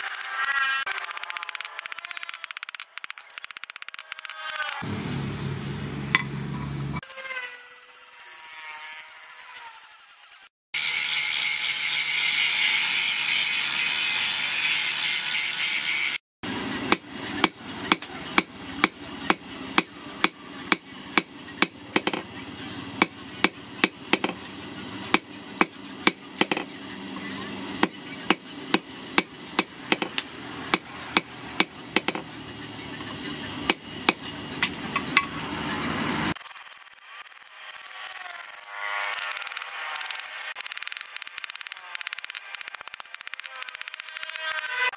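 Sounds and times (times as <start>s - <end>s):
angle grinder cutting steel: 0.0s - 4.9s, 7.0s - 44.9s.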